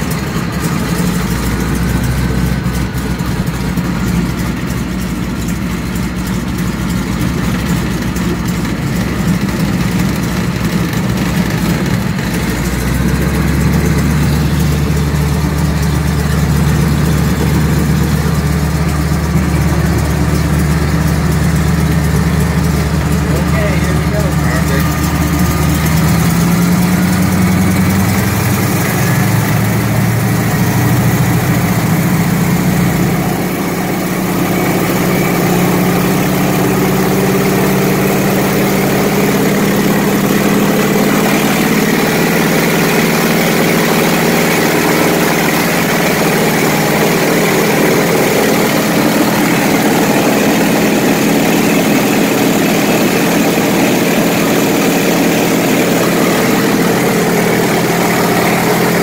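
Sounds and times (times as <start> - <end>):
propeller aircraft engine: 0.0 - 59.0.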